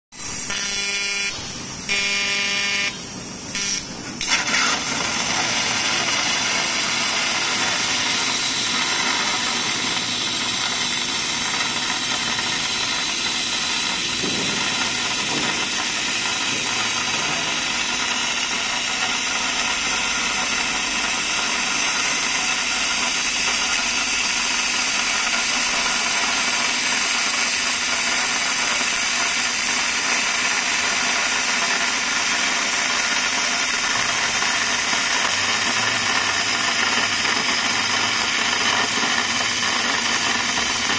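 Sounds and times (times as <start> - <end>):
gas jet hissing: 0.2 - 2.2, 3.0 - 40.9
pitched buzz: 0.2 - 40.9.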